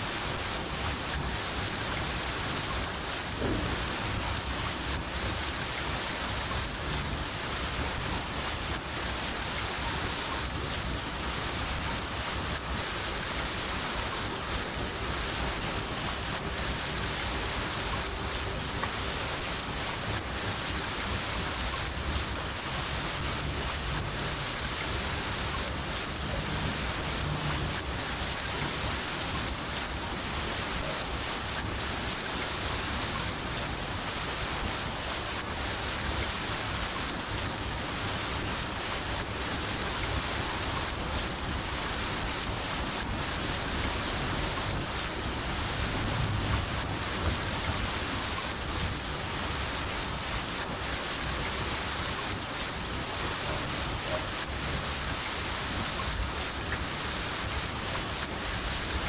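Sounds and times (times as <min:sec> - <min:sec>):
cricket chirping: 0:00.0 - 0:59.0
steady rain: 0:00.0 - 0:59.0.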